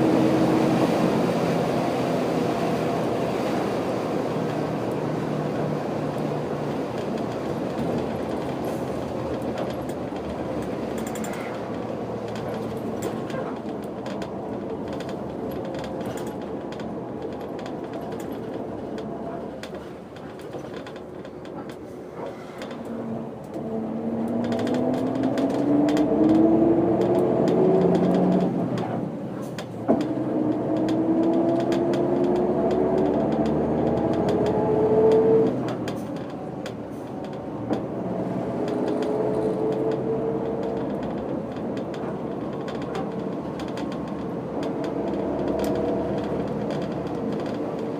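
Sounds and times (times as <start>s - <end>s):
bus engine pulling hard: 0.0s - 47.9s
road and cabin noise: 0.0s - 47.9s
gear change clunk: 6.1s - 47.9s.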